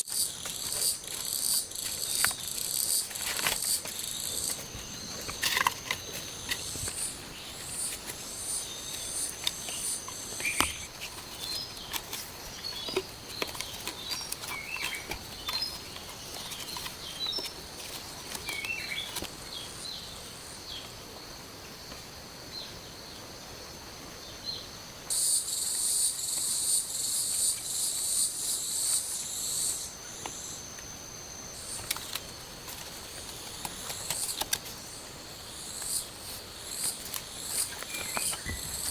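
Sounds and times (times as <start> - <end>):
insects chirping and trilling: 0.0 - 38.9.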